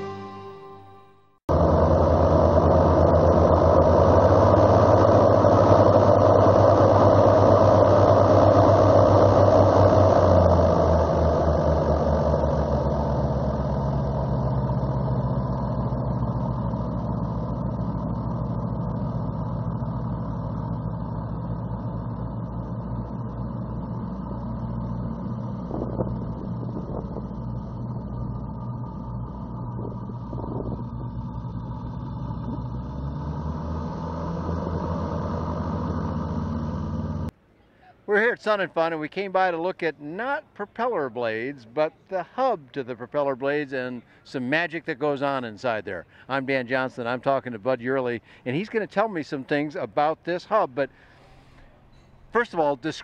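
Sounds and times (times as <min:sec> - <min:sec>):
plane engines running: 0:00.0 - 0:37.4, 0:40.4 - 0:53.0.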